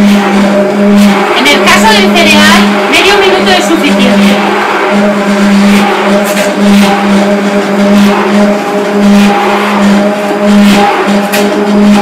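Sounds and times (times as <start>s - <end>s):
hand blender running: 0.0s - 12.0s.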